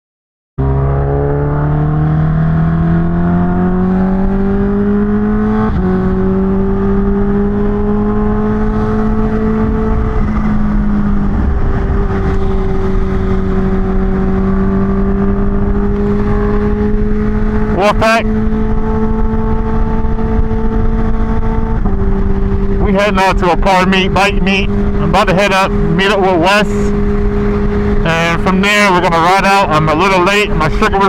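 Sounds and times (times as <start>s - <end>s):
motorcycle engine accelerating: 0.6s - 31.0s.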